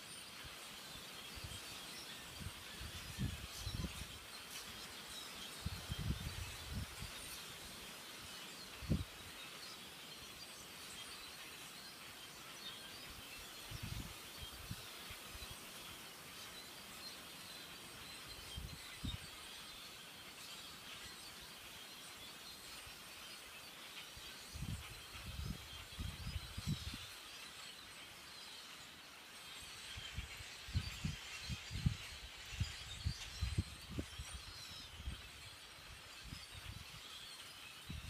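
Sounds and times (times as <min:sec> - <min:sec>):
flock of birds chattering: 0:00.0 - 0:38.0.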